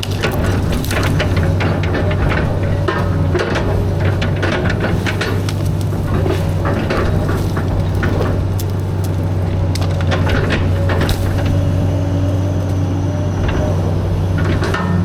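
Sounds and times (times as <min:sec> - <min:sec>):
branches cracking and snapping: 0:00.0 - 0:15.0
excavator diesel engine running: 0:00.0 - 0:15.0.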